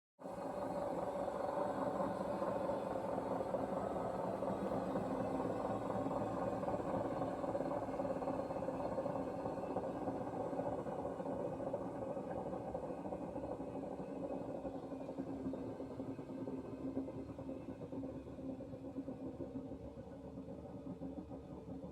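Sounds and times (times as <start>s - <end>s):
washing machine rattling whir: 0.4s - 21.9s.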